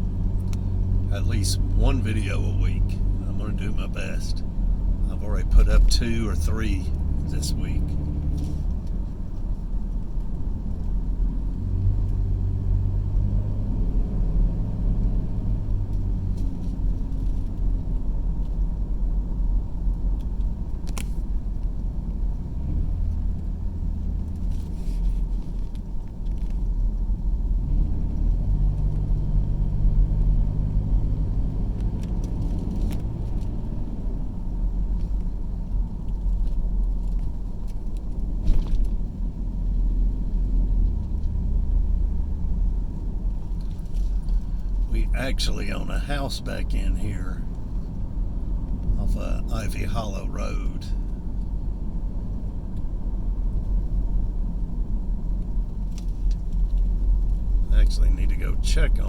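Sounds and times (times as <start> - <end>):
car road noise and engine: 0.0 - 59.0.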